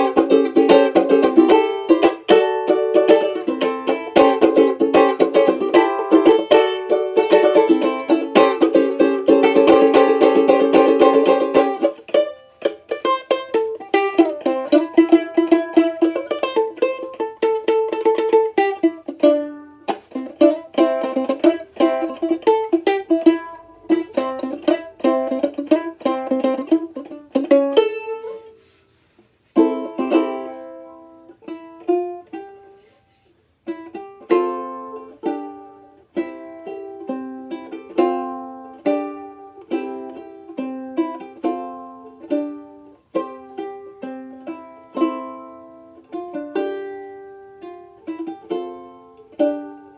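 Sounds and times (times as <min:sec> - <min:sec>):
banjolele strummed and picked: 0:00.0 - 0:49.9.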